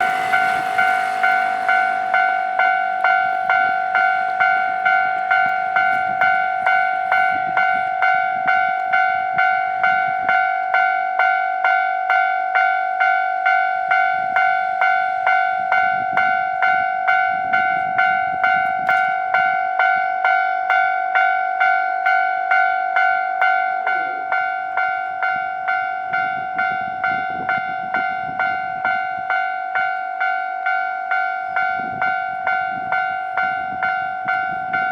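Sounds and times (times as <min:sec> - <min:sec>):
level crossing alarm ringing: 0:00.0 - 0:34.9.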